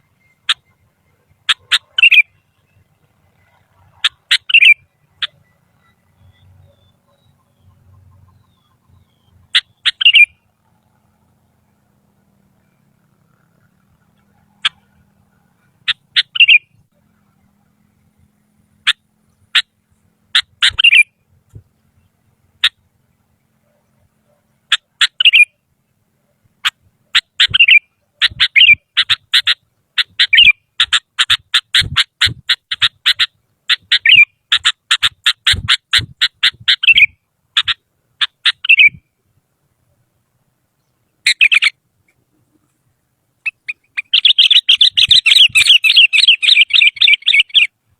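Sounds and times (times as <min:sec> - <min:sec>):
bulbul calling: 0:00.0 - 0:39.2, 0:40.7 - 0:47.9.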